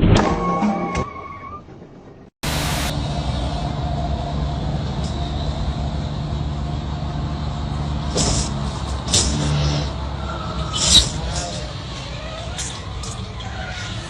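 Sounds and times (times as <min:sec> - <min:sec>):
vehicle engine rumble: 0:01.7 - 0:14.0
road noise: 0:01.8 - 0:14.0.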